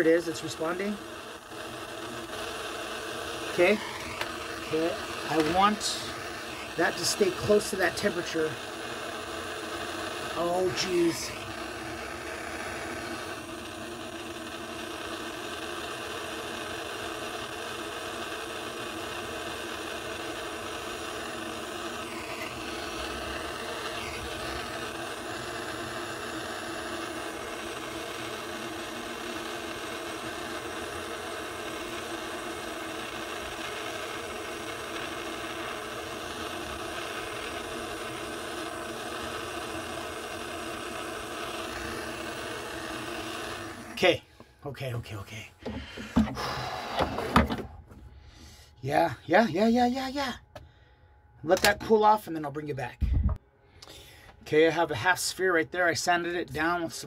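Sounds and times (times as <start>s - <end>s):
gas torch flame hissing: 0.0s - 44.6s, 45.5s - 50.3s.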